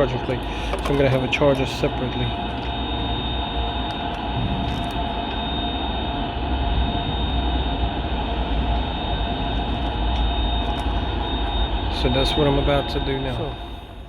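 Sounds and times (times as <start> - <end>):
faint high whine: 0.0 - 14.0
steady mechanical rumbling: 0.0 - 14.0.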